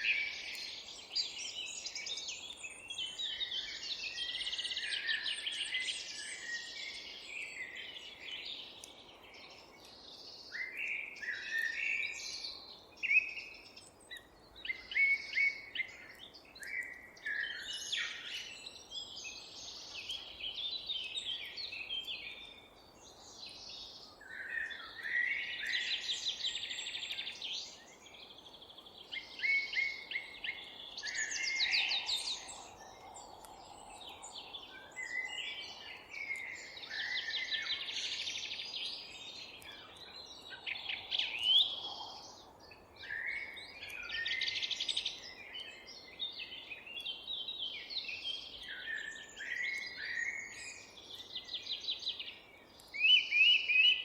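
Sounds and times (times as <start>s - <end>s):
faint steady hiss: 0.0s - 53.9s
songbirds singing: 0.0s - 54.0s.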